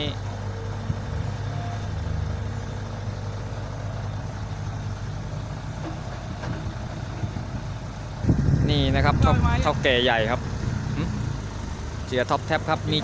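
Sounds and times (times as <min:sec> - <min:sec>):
diesel truck engine droning: 0:00.0 - 0:13.0.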